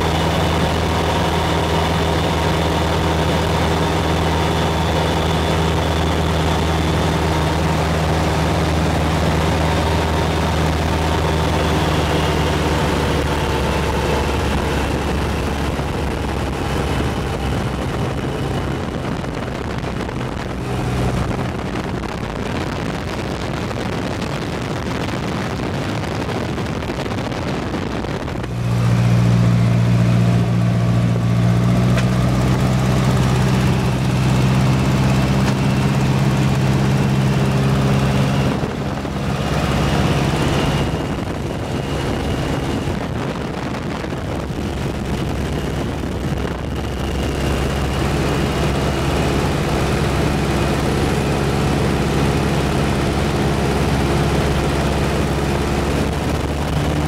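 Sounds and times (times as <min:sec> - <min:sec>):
propeller plane engine droning: 0:00.0 - 0:57.0
rush of air noise: 0:00.0 - 0:57.0.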